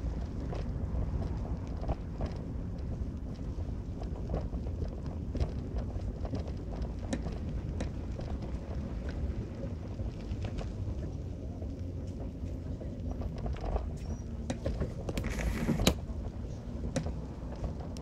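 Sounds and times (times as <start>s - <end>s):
road rumble inside car: 0.0s - 18.0s
small knocks and rattles: 0.2s - 18.0s.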